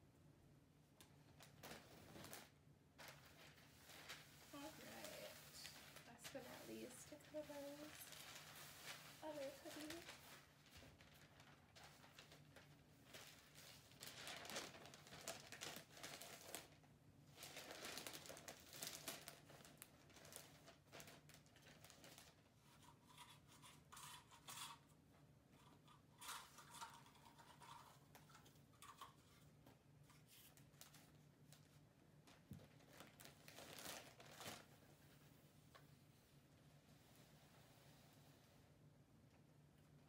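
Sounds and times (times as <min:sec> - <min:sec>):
wrapping paper crinkling: 0:01.0 - 0:24.9, 0:25.6 - 0:35.8.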